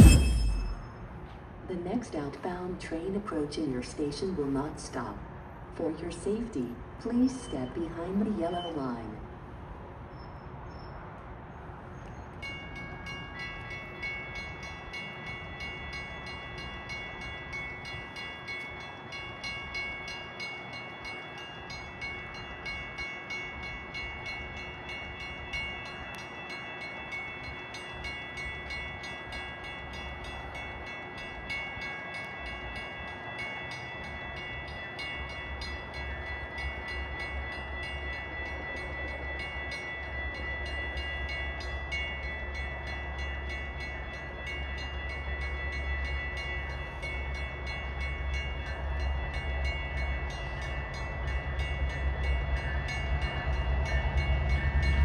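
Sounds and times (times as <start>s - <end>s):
railroad crossing bells ringing: 0.0s - 10.0s, 11.9s - 55.0s
train rumbling: 0.0s - 55.0s.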